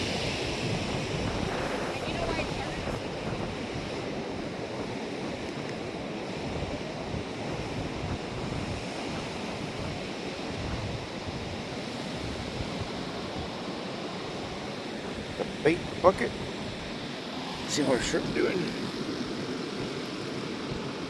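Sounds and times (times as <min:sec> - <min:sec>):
surf washing on beach: 0:00.0 - 0:21.0
wind on microphone: 0:00.0 - 0:21.0.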